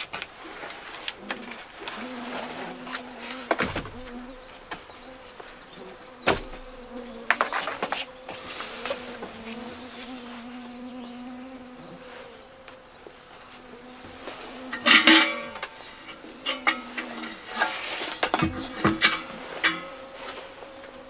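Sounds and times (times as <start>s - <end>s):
flying insect buzzing: 1.2s - 21.0s.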